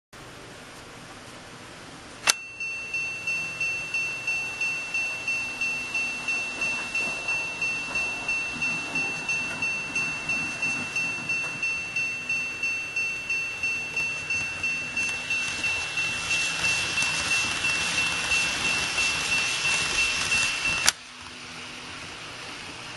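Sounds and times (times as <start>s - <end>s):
electronic crossing bell dinging: 2.3s - 21.0s
model train rushing: 2.6s - 22.9s.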